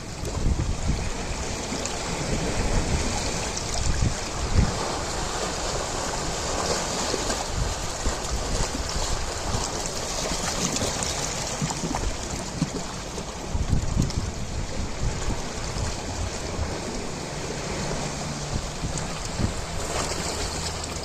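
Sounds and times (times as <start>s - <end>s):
ocean surf waves: 0.0s - 21.0s.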